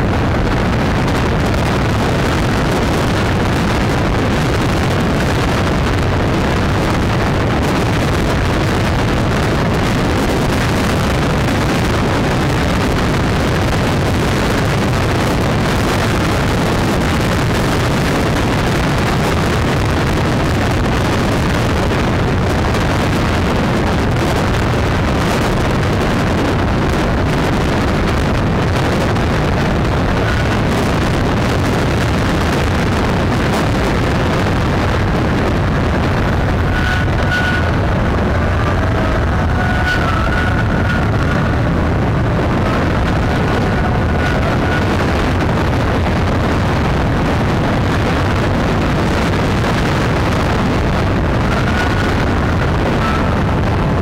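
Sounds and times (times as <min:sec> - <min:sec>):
car engine and road noise: 0:00.0 - 0:54.0
wind rushing on microphone: 0:00.0 - 0:54.0.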